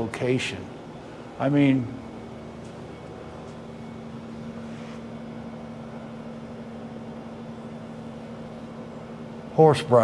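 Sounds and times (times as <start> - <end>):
low constant hum: 0.0 - 10.0.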